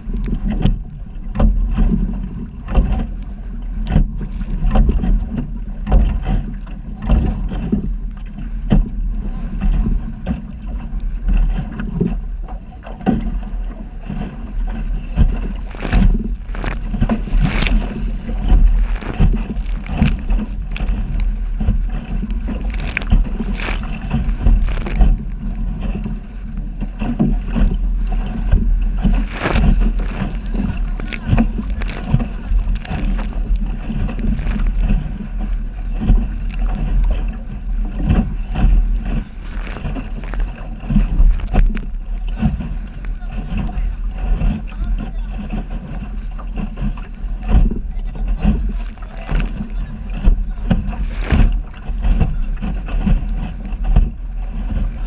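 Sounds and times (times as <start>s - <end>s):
waves slapping boat hull: 0.0s - 55.0s
wind buffeting microphone: 0.0s - 55.0s.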